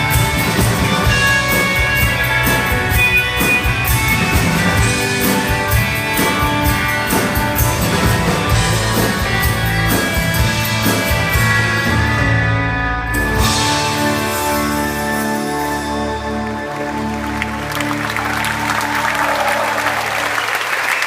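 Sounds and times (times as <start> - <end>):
electric guitars playing: 0.0 - 20.7.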